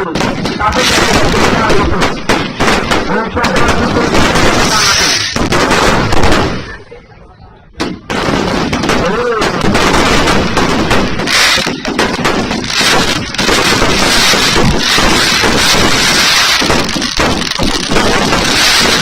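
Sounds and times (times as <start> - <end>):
fireworks bangs and crackles: 0.0 - 7.0, 7.7 - 19.0.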